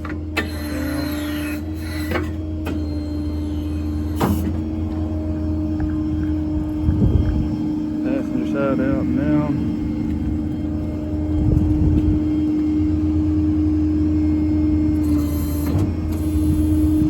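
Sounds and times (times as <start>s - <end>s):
constant whine: 0.0s - 17.0s
diesel engine running: 0.0s - 17.0s.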